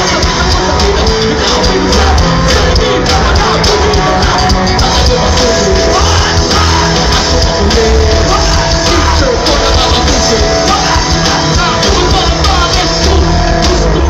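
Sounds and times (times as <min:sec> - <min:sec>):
live band playing: 0:00.0 - 0:14.0
man singing into a microphone: 0:00.0 - 0:14.0.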